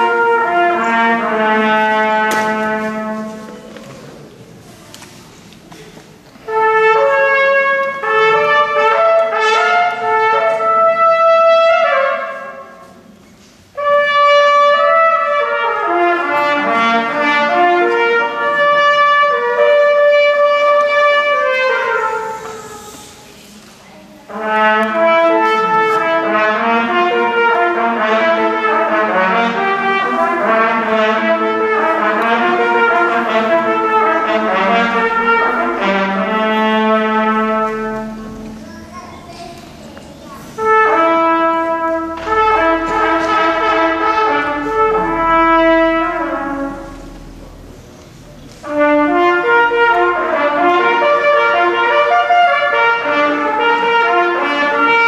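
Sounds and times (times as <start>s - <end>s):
instrumental ensemble in a church: 0.0s - 55.0s.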